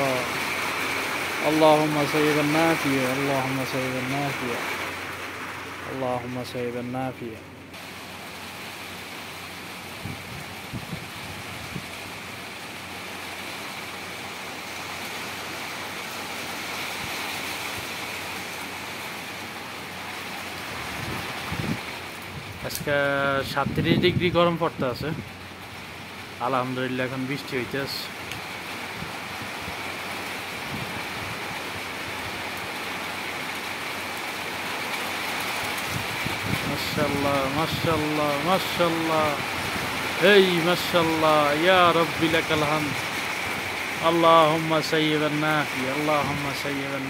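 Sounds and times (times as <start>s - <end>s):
rain on tiled paving: 0.0s - 47.0s.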